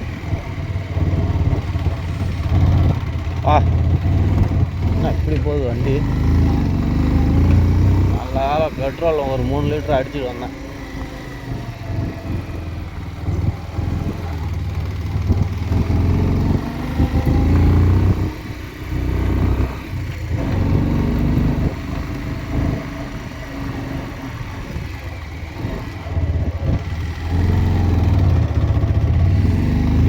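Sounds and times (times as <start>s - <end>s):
motorcycle engine labouring: 0.0s - 30.0s.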